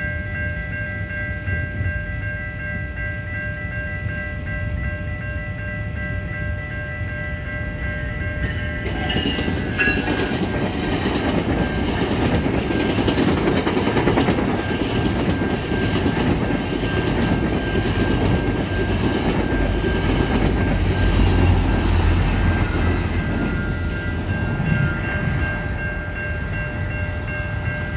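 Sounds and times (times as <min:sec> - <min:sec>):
train wheels rumbling on rails: 0:00.0 - 0:27.9
crossing signal warning tone: 0:03.6 - 0:13.6, 0:14.5 - 0:27.9.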